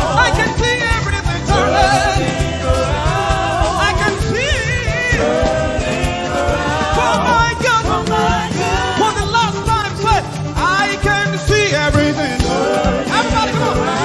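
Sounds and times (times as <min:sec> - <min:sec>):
band playing steady beat: 0:00.0 - 0:14.0.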